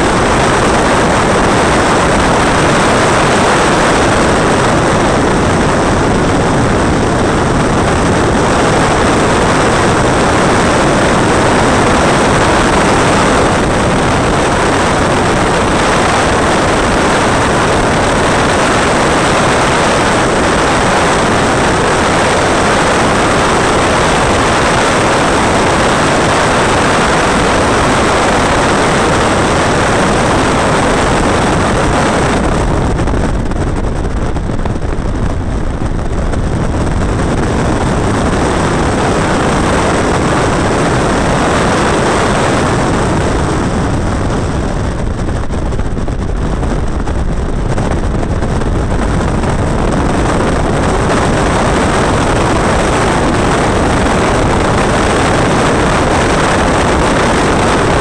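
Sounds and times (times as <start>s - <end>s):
car engine running hard: 0.0s - 58.0s
wind rush: 0.0s - 58.0s.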